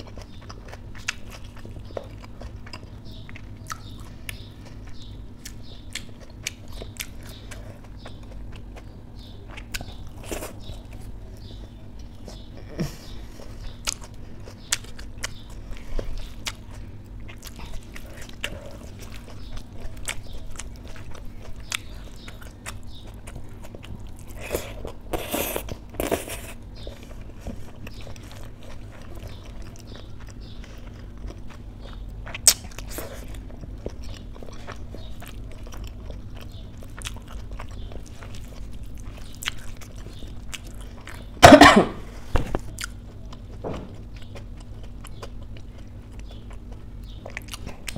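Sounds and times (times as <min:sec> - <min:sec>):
wet chewing and mouth smacks: 0:00.0 - 0:12.5, 0:13.3 - 0:41.5, 0:42.5 - 0:47.9.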